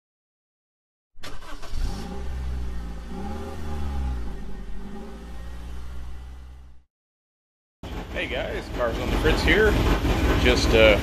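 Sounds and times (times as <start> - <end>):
car engine starting and revving: 1.2 - 6.9, 7.8 - 11.0.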